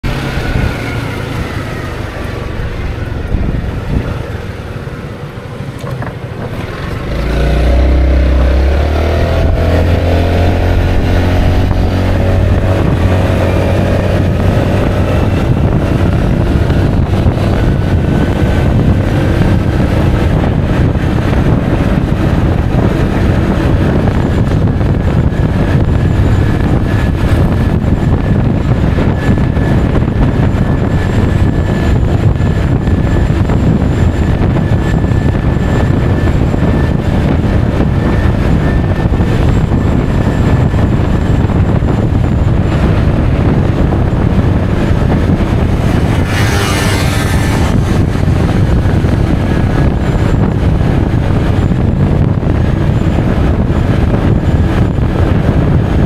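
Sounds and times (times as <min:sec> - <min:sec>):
scooter engine accelerating: 0:00.0 - 0:56.0
wind noise on microphone: 0:00.0 - 0:56.0.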